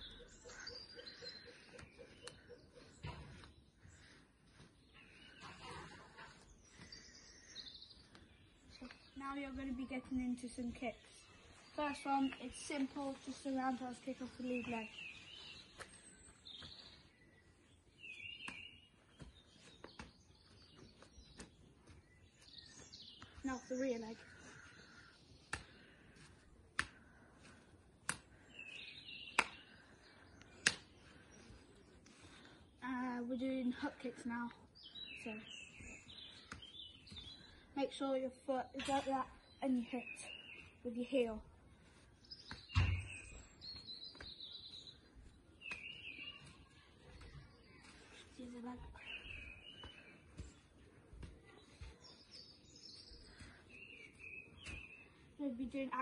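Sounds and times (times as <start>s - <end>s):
faint bird chirps: 0.0s - 26.0s, 33.6s - 56.0s.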